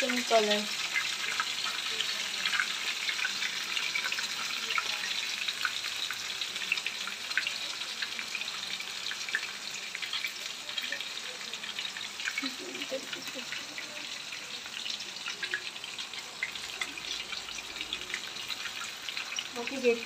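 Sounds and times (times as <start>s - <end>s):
food deep-frying in sizzling oil: 0.0s - 20.0s.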